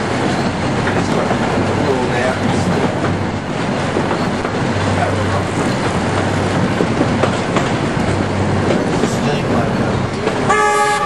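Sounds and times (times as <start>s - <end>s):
train rumbling along track: 0.0s - 11.0s
faint rail clicks: 0.2s - 10.5s.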